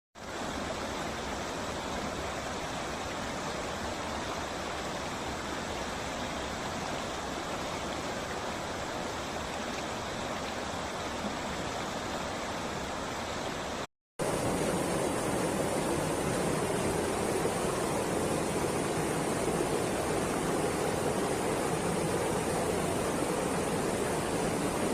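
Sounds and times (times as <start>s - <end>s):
rushing water: 0.2s - 24.9s.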